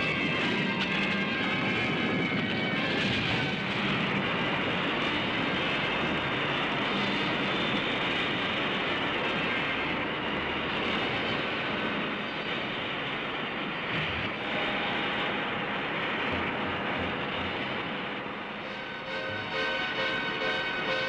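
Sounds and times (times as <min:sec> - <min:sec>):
steady roaring rush: 0:00.0 - 0:21.0.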